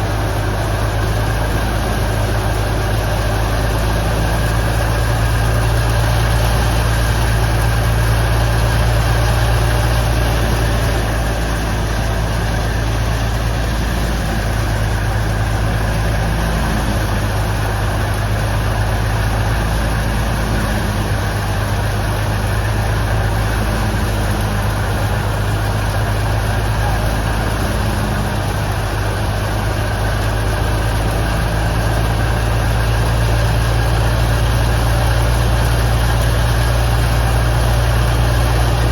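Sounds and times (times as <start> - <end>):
thresher running: 0.0 - 38.9.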